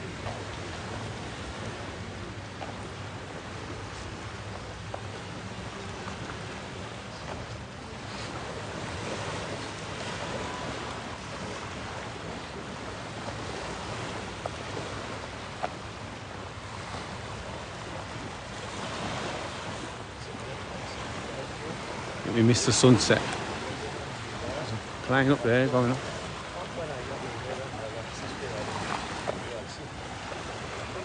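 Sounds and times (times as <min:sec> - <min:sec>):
sea waves washing onto beach: 0:00.0 - 0:31.0
wind rumbling on microphone: 0:00.0 - 0:31.0.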